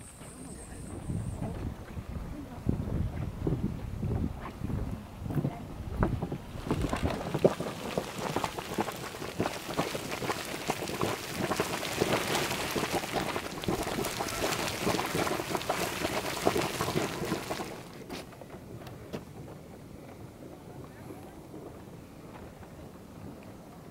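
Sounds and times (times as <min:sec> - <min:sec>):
hot spring water boiling: 0:00.0 - 0:23.9.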